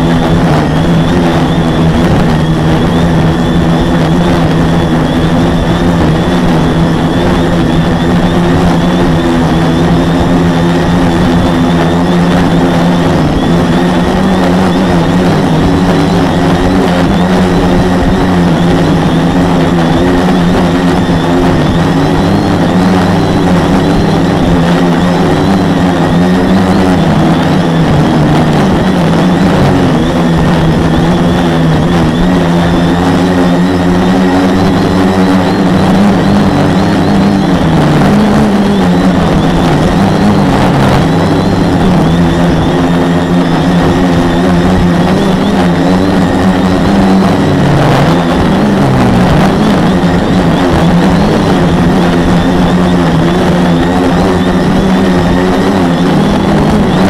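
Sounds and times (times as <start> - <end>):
quadcopter motors buzzing: 0.0 - 57.0
rush of noise: 0.0 - 57.0.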